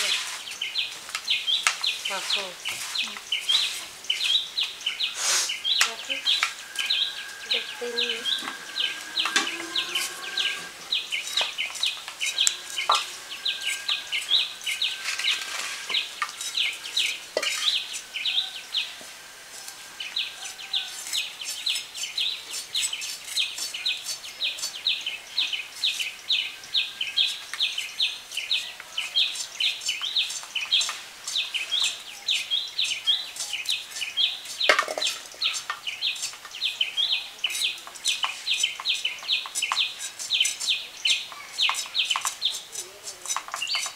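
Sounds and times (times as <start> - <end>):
small birds chirping: 0.0 - 43.9
blade peeling knocks and scrapes: 5.8 - 43.9.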